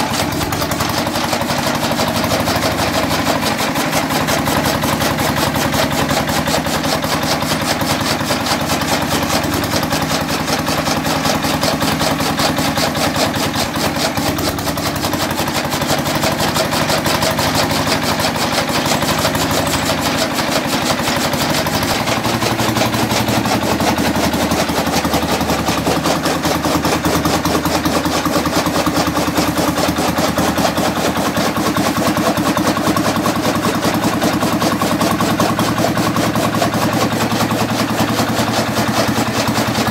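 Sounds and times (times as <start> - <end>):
chaff cutter chopping fodder: 0.0 - 39.9
diesel engine running: 0.0 - 39.9.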